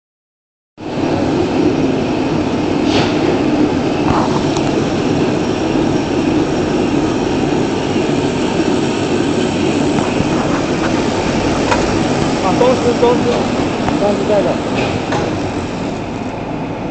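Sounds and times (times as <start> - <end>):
machine humming and rattling: 0.8 - 16.9.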